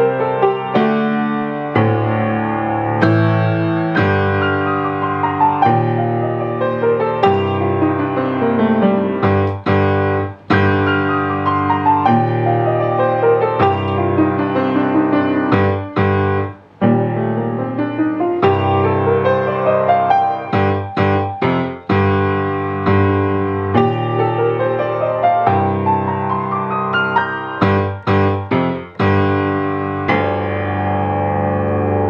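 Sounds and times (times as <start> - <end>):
grand piano playing: 0.0 - 32.0.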